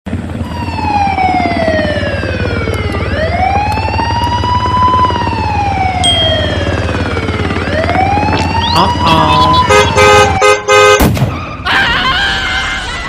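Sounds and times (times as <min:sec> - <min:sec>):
ambulance siren wailing: 0:00.4 - 0:13.0.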